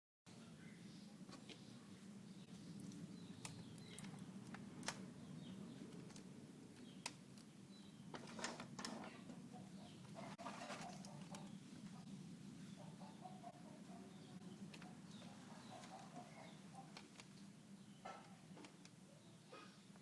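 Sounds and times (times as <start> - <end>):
distant bird chirps: 0.6 - 20.0.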